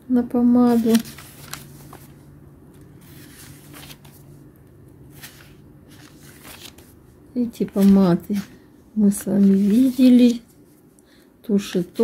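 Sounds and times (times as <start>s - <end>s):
paper rustling: 0.6s - 4.4s, 5.1s - 10.8s, 11.6s - 12.0s.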